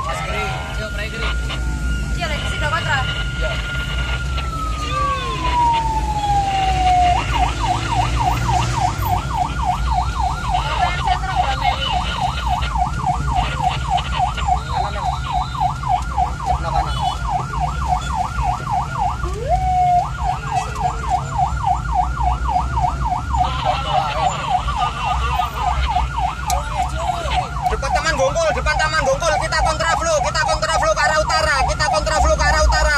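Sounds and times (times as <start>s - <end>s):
second siren: 0.0s - 32.9s
siren yelping: 0.0s - 32.9s.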